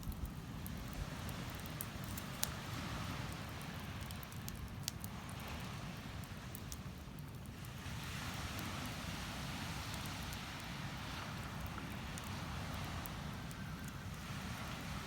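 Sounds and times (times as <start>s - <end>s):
campfire crackling: 0.0s - 15.0s
sea waves washing onto shore: 0.4s - 15.0s.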